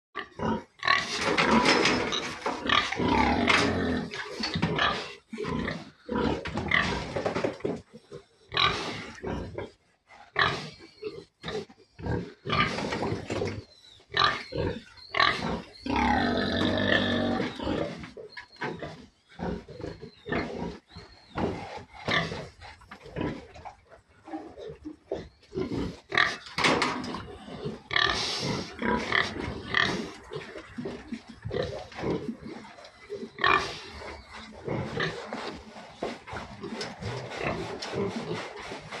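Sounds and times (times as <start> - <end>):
pigs and piglets calling: 0.2 - 39.0.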